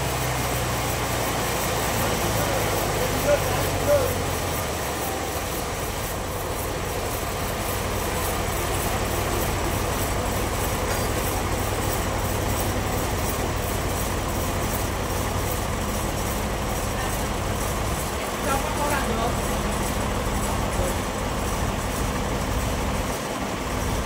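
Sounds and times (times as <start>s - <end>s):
sawmill machinery running: 0.0s - 24.0s.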